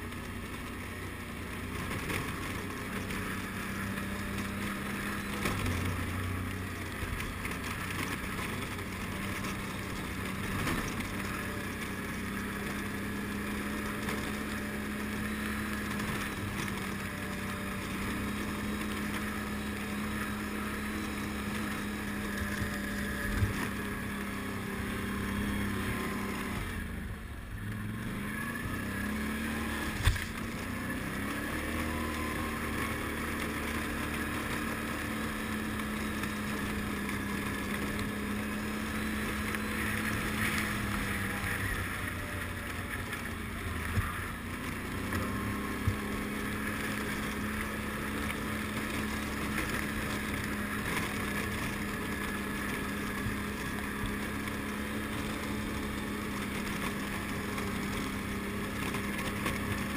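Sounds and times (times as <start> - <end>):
quad engine running under load: 0.0 - 59.9.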